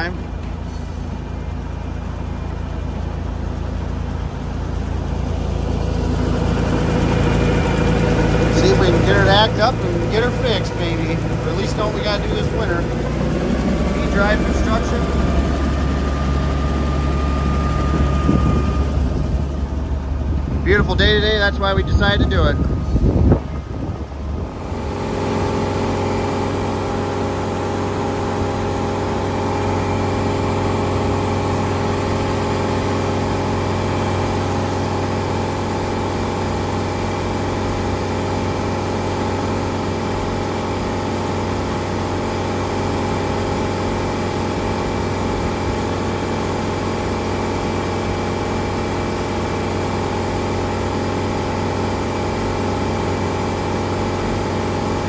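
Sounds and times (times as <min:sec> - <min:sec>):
marine engine running: 0:00.0 - 0:55.0.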